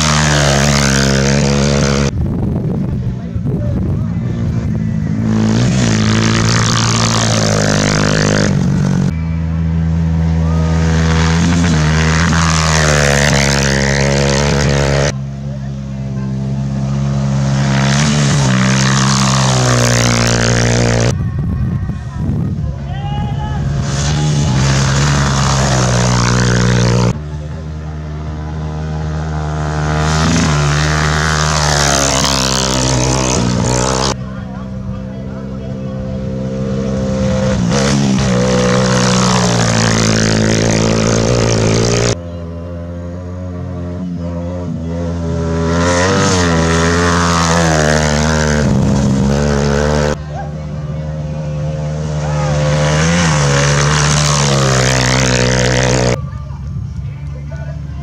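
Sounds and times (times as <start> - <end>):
motorcycle engines at high revs: 0.0 - 21.2, 23.4 - 58.0.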